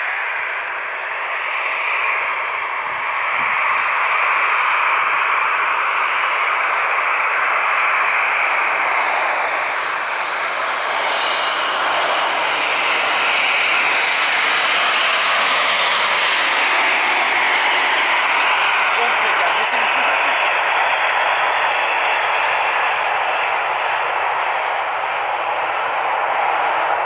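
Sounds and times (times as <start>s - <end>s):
jet airliner engine noise: 0.0s - 27.0s.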